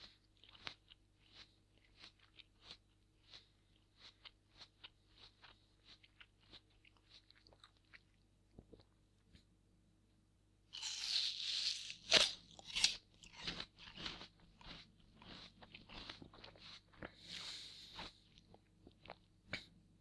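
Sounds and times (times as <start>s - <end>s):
apple being bitten and chewed: 0.0s - 8.9s, 10.7s - 19.7s.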